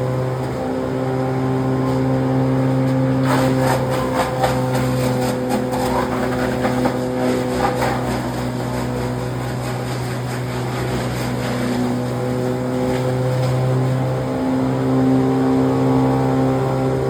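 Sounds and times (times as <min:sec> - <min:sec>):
branch shredder engine running: 0:00.0 - 0:17.0.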